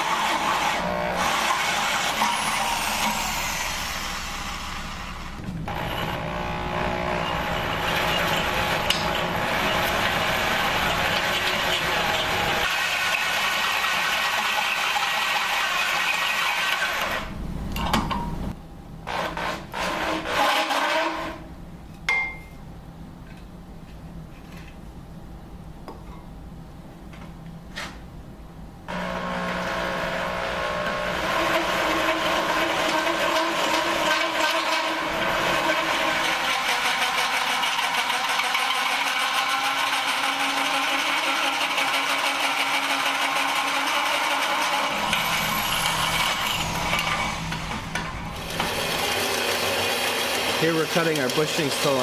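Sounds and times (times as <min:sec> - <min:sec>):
power tool working metal: 0:00.0 - 0:17.4, 0:19.1 - 0:21.5, 0:28.9 - 0:52.0.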